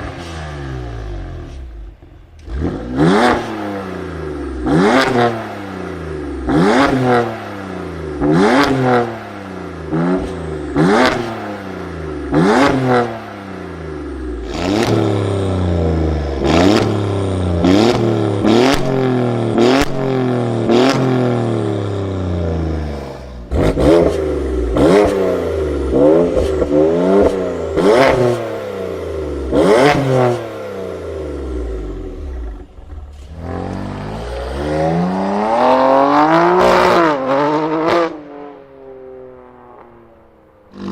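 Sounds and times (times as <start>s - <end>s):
car engine revving in blips: 0.0s - 40.0s.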